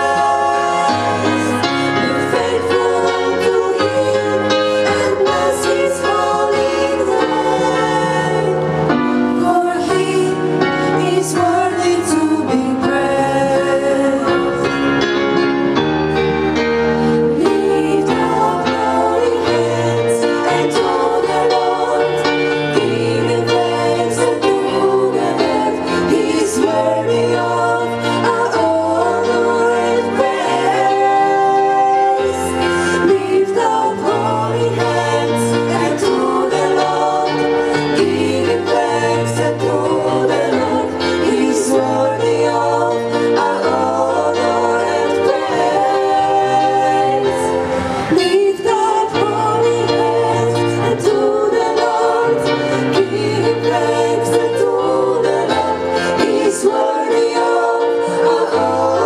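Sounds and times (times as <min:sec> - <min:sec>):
female vocal quartet singing in harmony: 0:00.0 - 0:59.0.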